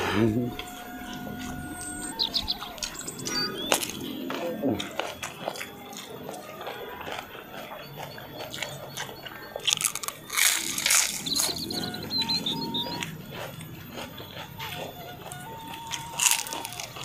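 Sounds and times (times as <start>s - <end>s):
crunchy chewing mouth noises: 0.0s - 17.0s.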